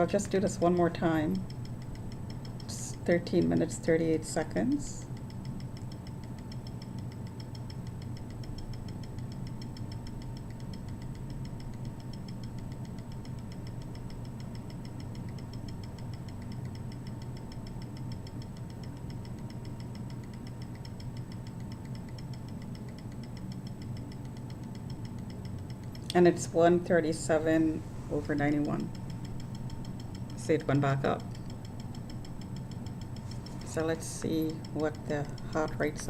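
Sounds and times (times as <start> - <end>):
electric air pump humming and ticking: 0.0 - 36.0.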